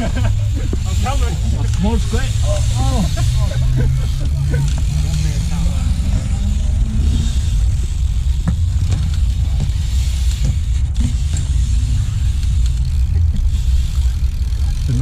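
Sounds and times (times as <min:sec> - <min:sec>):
loud low rumble: 0:00.0 - 0:15.0.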